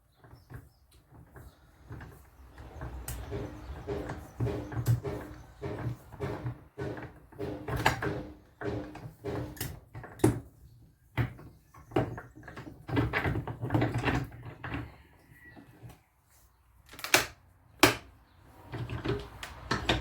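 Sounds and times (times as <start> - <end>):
hand tools knocking and scraping metal: 0.1 - 15.0, 17.0 - 20.0.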